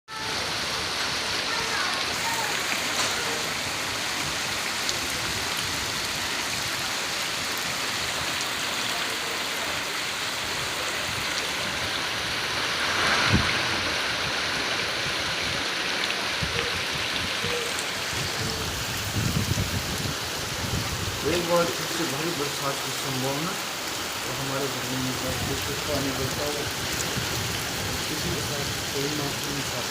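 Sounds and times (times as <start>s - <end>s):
heavy rain pouring: 0.1s - 29.9s
running water: 0.1s - 29.9s.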